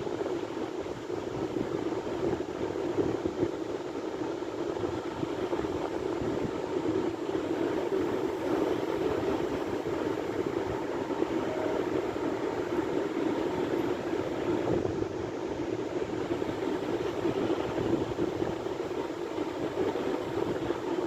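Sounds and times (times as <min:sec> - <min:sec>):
sea waves surf: 0:00.1 - 0:21.0.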